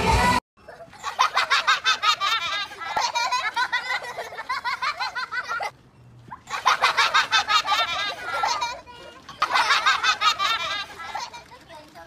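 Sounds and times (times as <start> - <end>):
young children laughing and squealing: 0.6 - 11.8.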